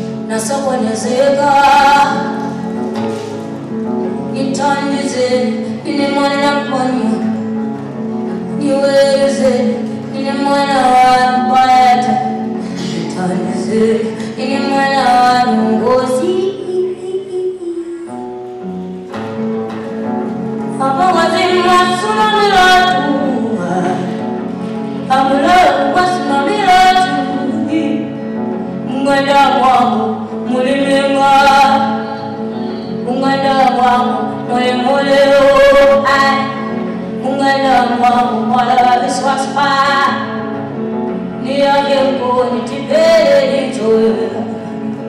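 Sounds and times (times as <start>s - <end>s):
woman singing: 0.0s - 2.8s, 4.2s - 18.4s, 20.6s - 45.0s
acoustic guitar: 0.0s - 45.0s.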